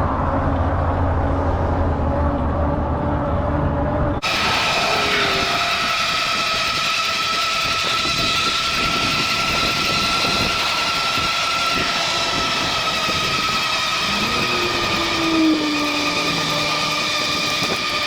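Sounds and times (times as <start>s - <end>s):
electric hub motor whining: 0.0s - 18.0s
wind on microphone: 0.0s - 18.0s.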